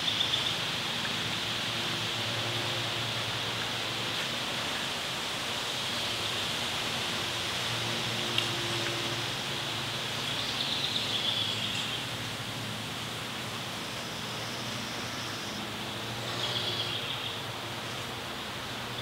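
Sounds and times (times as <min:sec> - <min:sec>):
open air hiss: 0:00.0 - 0:19.0.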